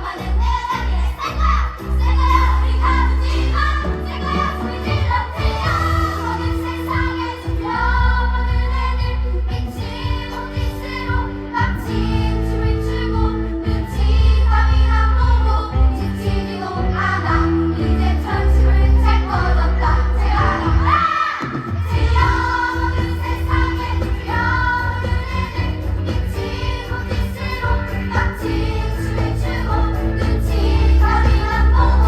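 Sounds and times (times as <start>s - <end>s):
backing track with strong bass: 0.0s - 32.0s
children singing: 0.0s - 32.0s.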